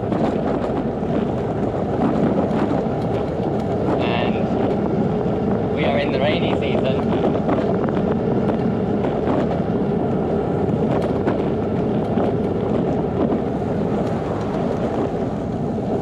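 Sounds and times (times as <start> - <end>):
bicycle tyre road noise: 0.0 - 16.0
wind rushing over microphone: 0.0 - 16.0.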